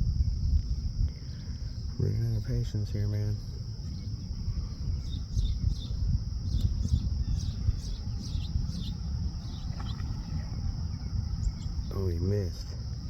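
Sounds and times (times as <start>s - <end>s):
high-pitched insect chorus: 0.0s - 13.0s
low rumbling noise: 0.0s - 13.0s.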